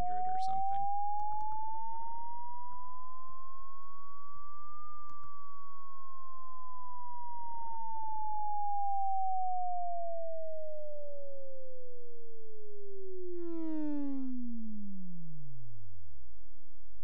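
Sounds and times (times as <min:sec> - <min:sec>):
sine tone sliding in pitch: 0:00.0 - 0:15.6.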